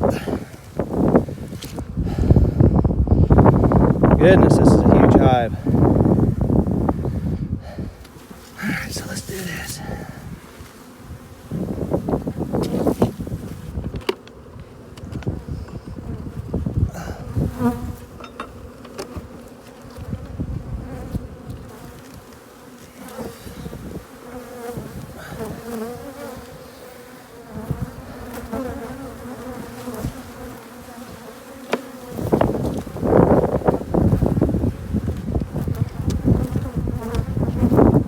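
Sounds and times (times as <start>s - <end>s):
bees buzzing: 0.0s - 2.0s, 2.7s - 38.0s.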